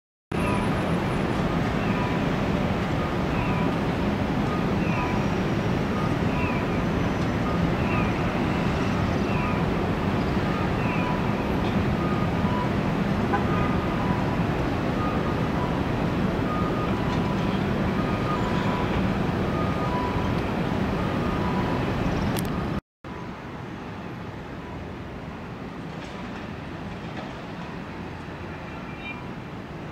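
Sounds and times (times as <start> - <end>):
city street traffic noise: 0.3 - 29.9.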